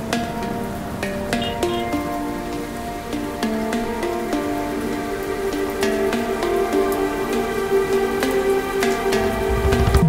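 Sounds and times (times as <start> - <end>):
melody of held notes: 0.0 - 10.0.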